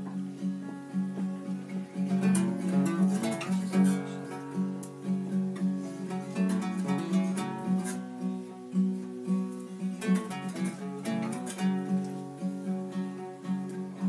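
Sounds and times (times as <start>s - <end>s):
acoustic guitars playing folk song: 0.0s - 14.0s.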